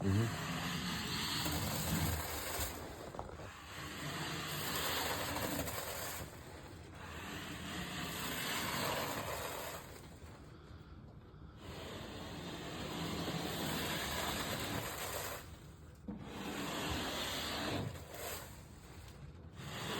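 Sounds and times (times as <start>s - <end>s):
scraper rasping on ceiling: 0.0s - 10.8s, 11.5s - 19.9s.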